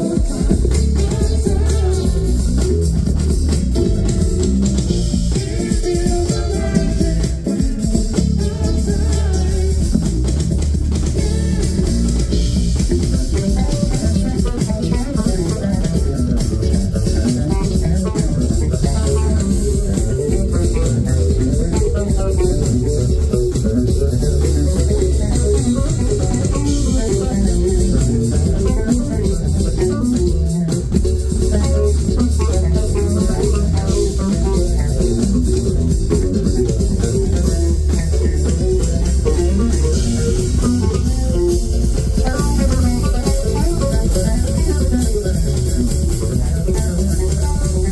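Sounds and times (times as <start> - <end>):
drum kit and cymbals: 0.0 - 47.9
electric bass guitar quick notes: 0.0 - 47.9
live band music: 0.0 - 47.9.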